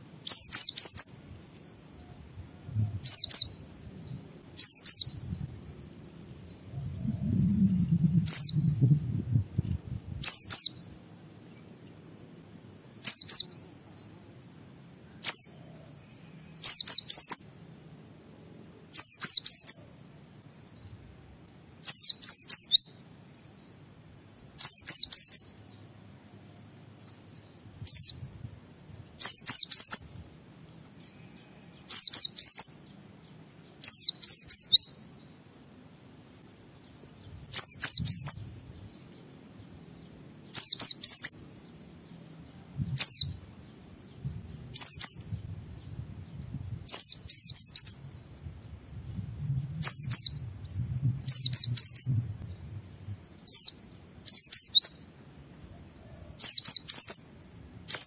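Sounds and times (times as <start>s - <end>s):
bird singing rapid chirps: 0.3s - 9.4s, 10.2s - 14.6s, 15.2s - 17.6s, 18.9s - 20.9s, 21.8s - 25.9s, 26.6s - 35.4s, 36.9s - 48.4s, 49.0s - 58.0s.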